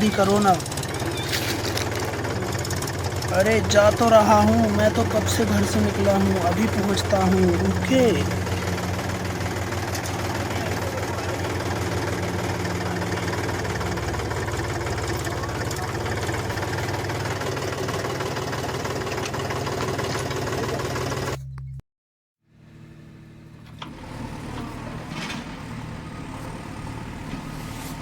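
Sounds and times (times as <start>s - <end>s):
tractor engine running: 0.0s - 21.8s, 22.6s - 28.0s.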